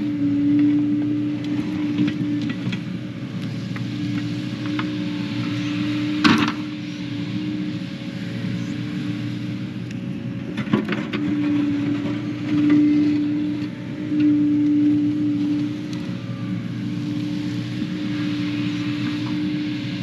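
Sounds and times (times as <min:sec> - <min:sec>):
digging machine diesel engine: 0:00.0 - 0:20.0.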